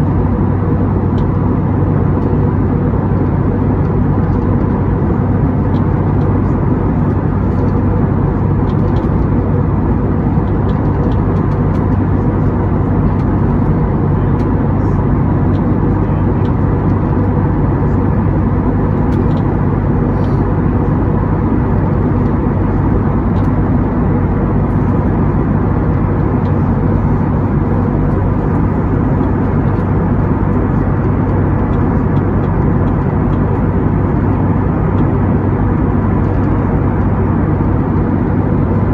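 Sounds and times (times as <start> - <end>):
aircraft cabin engine drone: 0.0 - 38.9
low hum: 0.0 - 38.9.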